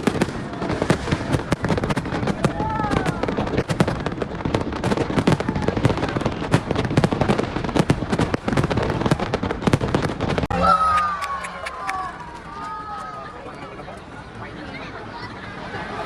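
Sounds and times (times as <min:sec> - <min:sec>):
fireworks crackling and banging: 0:00.0 - 0:14.3.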